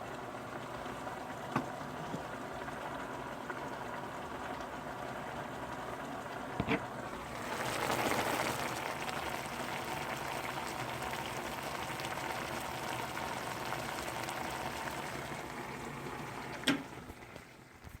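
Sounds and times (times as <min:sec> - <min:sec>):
food boiling in a pot: 0:00.0 - 0:18.0.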